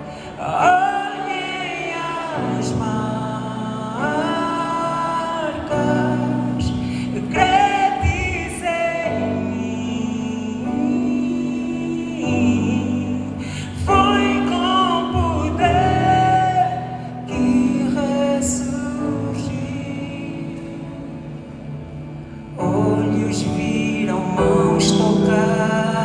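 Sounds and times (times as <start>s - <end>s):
live gospel band playing: 0.0s - 26.0s
person singing long notes: 0.0s - 26.0s.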